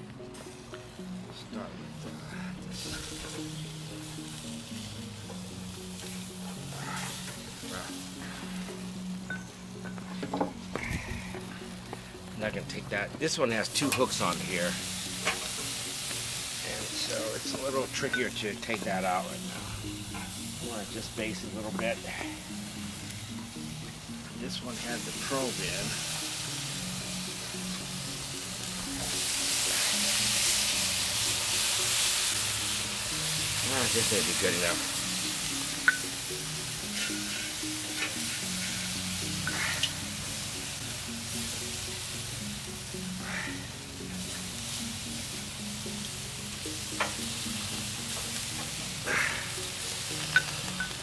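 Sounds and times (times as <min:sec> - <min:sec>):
meat sizzling over charcoal: 0:00.0 - 0:51.0
soft background music: 0:00.0 - 0:51.0.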